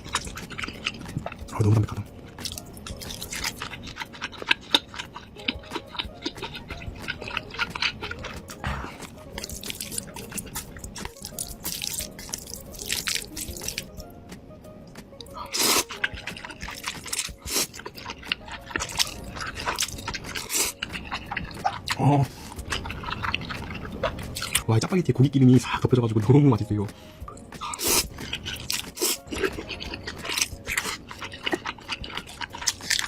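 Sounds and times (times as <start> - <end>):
noodles slurping: 0.0 - 13.9, 15.2 - 24.6, 27.6 - 33.0
chewing with wet mouth clicks: 0.0 - 14.0, 15.2 - 24.7, 27.3 - 33.0.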